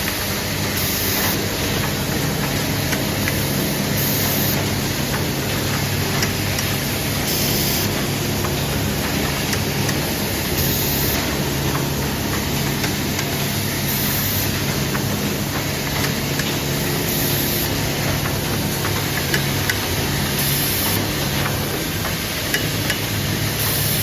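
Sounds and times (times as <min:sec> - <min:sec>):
machine humming with hiss: 0:00.0 - 0:24.0.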